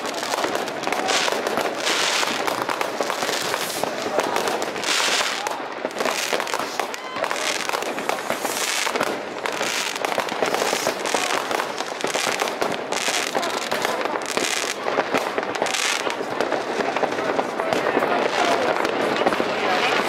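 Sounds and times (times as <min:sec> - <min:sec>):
fireworks crackling and popping: 0:00.0 - 0:20.0.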